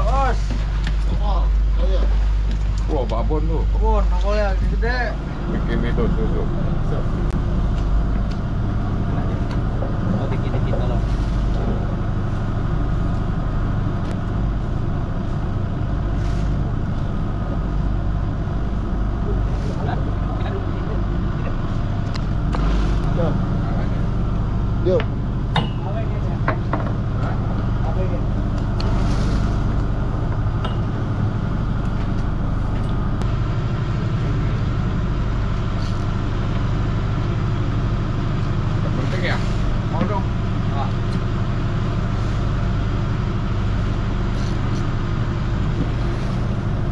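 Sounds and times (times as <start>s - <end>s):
boat machinery droning: 0.0s - 46.9s.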